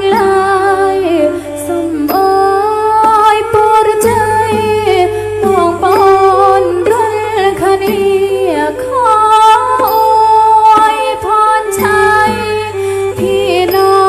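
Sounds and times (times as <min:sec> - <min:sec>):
instrumental backing: 0:00.0 - 0:14.0
woman singing: 0:00.0 - 0:14.0.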